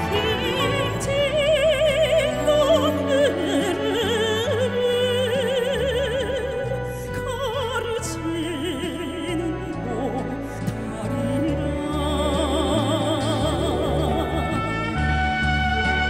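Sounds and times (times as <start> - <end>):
woman singing with vibrato: 0.0 - 15.1
sustained instrumental accompaniment: 0.0 - 16.0.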